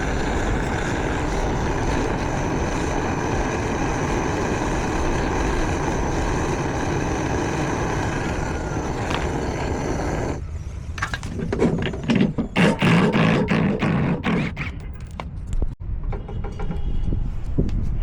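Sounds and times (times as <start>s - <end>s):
machine whining: 0.0s - 14.9s.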